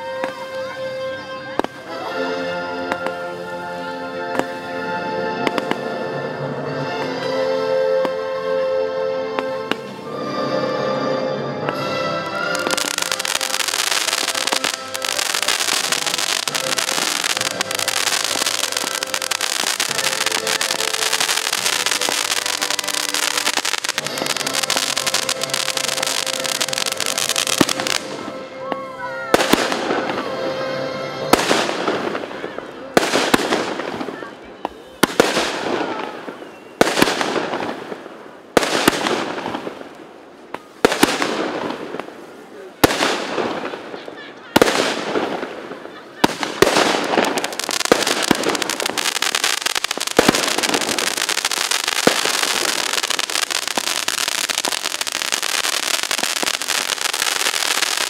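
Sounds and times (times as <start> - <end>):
music: 0.0 - 37.8, 46.2 - 58.0
fireworks crackling and banging: 0.0 - 58.0.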